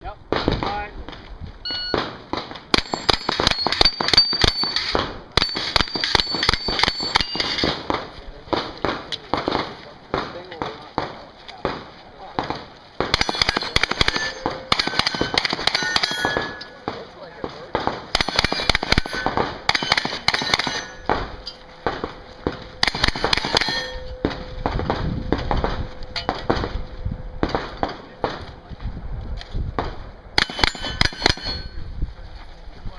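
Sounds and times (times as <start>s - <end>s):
carbine gunshots: 1.8s - 26.8s, 29.8s - 31.8s.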